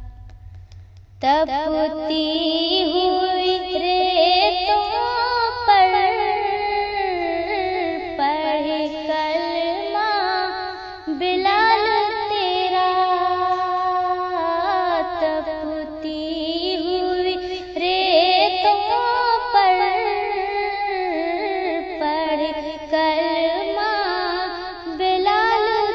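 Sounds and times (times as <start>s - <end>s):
woman singing devotional song: 0.0s - 25.9s.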